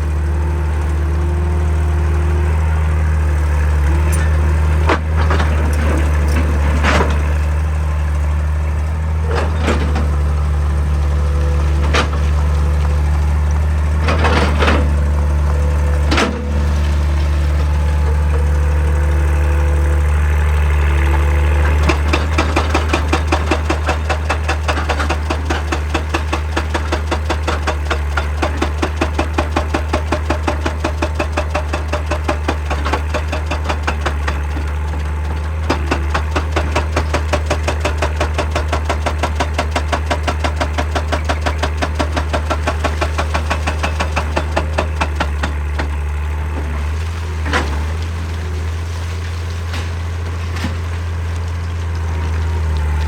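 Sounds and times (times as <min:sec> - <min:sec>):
excavator diesel engine running: 0:00.0 - 0:53.0
hydraulic breaker hammering rock: 0:03.8 - 0:07.9, 0:09.1 - 0:53.0.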